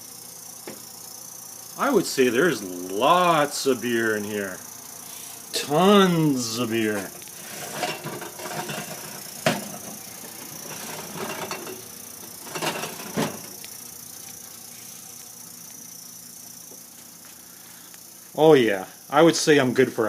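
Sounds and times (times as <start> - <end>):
steady low background hum: 0.0 - 20.0.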